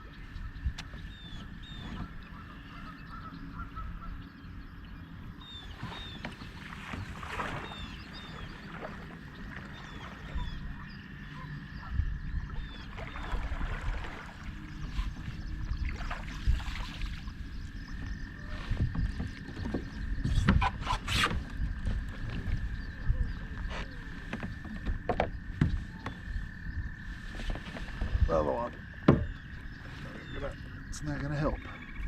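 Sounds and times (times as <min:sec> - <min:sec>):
birds chirping: 0:00.0 - 0:32.0
low rumble of wind and water: 0:00.0 - 0:32.0.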